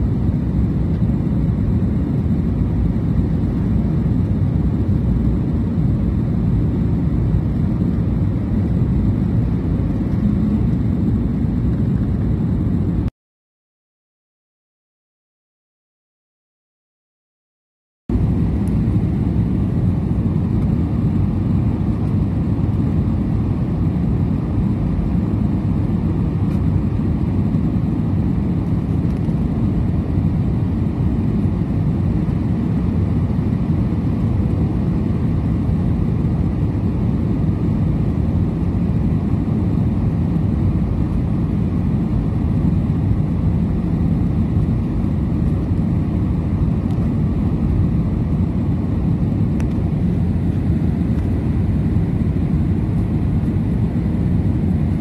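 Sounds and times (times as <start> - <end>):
jet airliner cabin rumble: 0.0 - 13.1, 18.1 - 55.0.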